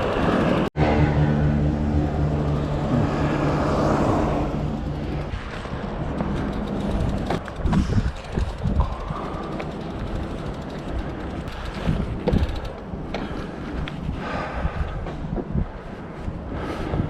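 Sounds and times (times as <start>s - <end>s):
vehicle engine humming: 0.0s - 16.6s
outdoor background noise: 0.0s - 17.0s.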